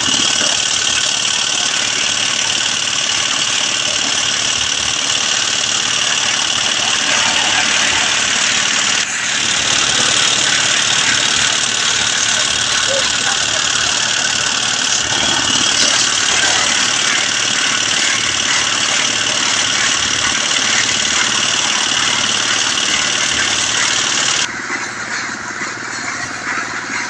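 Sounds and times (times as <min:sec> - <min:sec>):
engine running loudly: 0:00.0 - 0:27.0.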